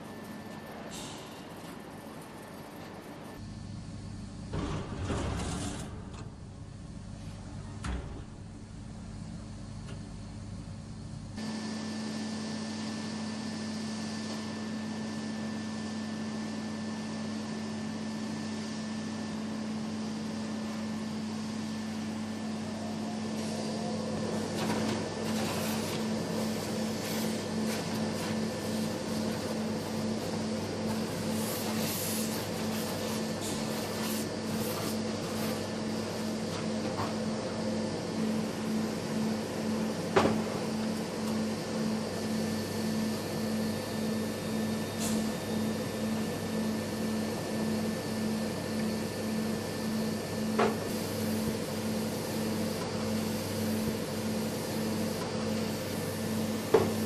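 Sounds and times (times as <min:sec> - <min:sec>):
machinery humming and pulsing: 0:00.0 - 0:57.0.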